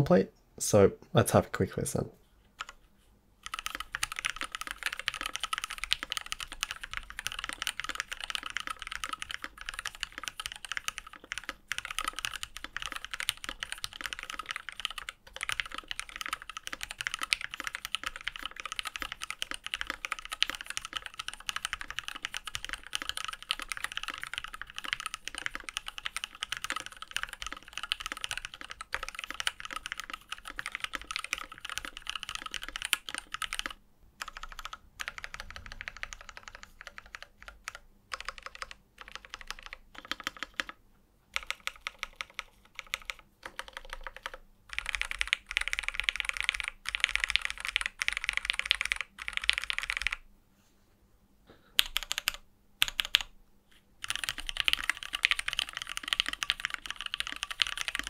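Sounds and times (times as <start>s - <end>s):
mechanical keyboard typing: 2.6s - 2.8s, 3.4s - 50.2s, 51.8s - 53.3s, 54.0s - 58.0s.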